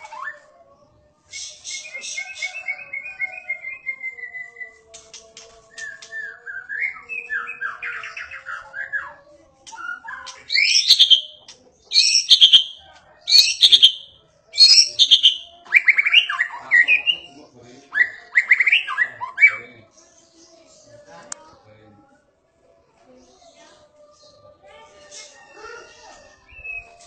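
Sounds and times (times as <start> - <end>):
bird singing: 0.0 - 21.8.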